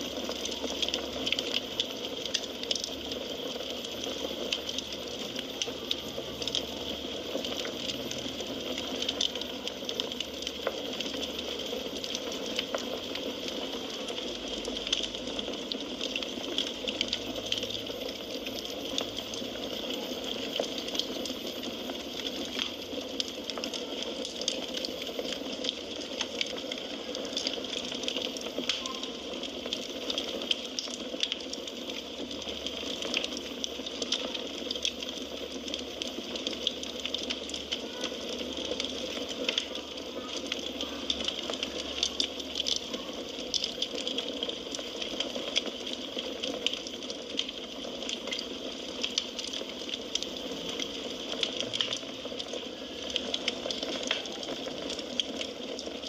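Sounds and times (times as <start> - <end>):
fire crackles and pops: 0.0 - 56.0.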